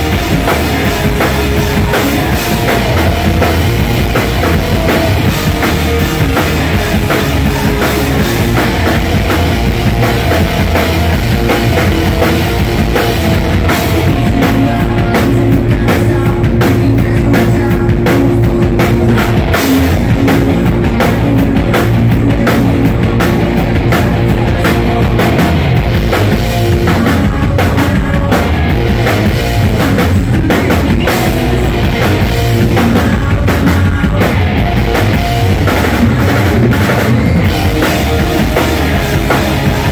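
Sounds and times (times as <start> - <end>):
distorted electric guitars: 0.0 - 39.9
pounding drum kit: 0.0 - 39.9
singer singing: 0.0 - 39.9.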